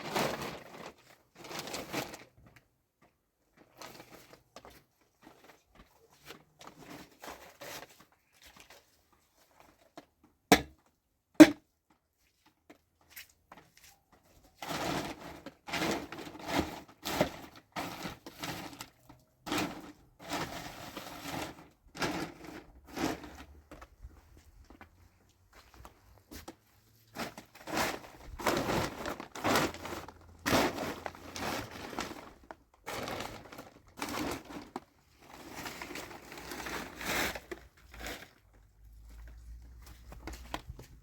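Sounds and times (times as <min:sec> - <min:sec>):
crinkling rustling handling noise: 0:00.0 - 0:41.0.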